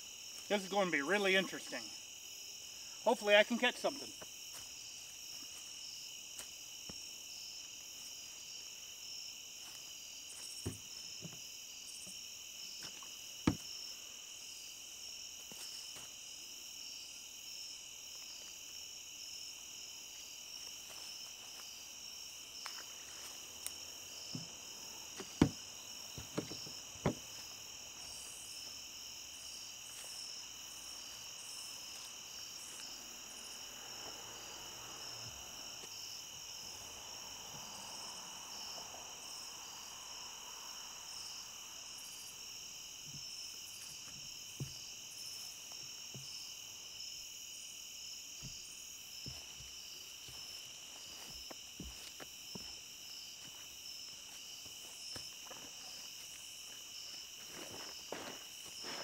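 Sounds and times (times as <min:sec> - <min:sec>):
night insects trilling: 0:00.0 - 0:59.0.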